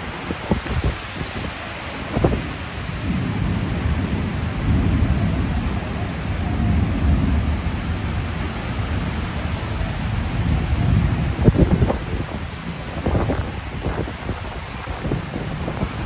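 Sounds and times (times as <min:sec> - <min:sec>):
heavy rain on a metal roof: 0:00.0 - 0:16.0
rolling thunder: 0:02.0 - 0:16.0.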